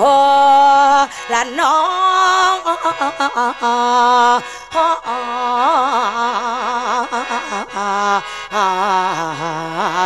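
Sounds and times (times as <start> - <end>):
person singing ornamented melody: 0.0 - 10.0.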